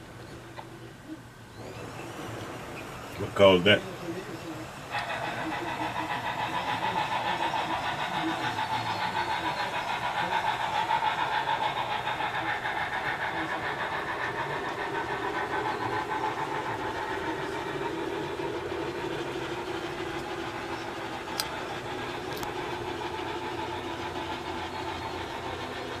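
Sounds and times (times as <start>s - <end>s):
model train rolling rumble: 0.0s - 26.0s.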